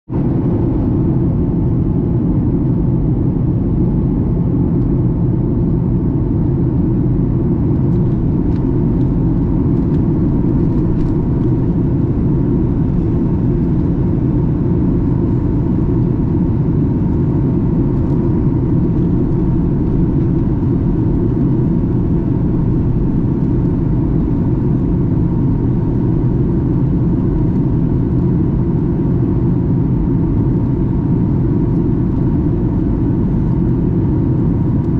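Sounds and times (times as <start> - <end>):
jet engine rumble: 0.1 - 34.9.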